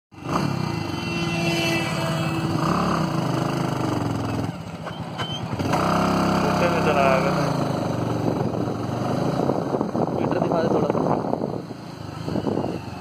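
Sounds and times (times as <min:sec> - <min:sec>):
motorcycle engine running: 0:00.2 - 0:13.0.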